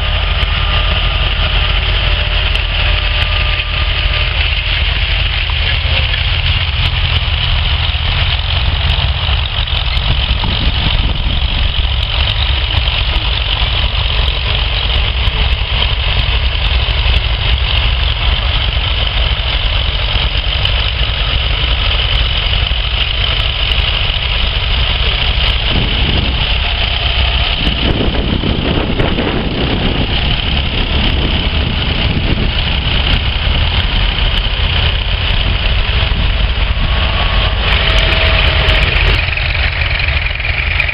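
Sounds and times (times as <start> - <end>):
tractor engine rumbling: 0.0 - 40.9.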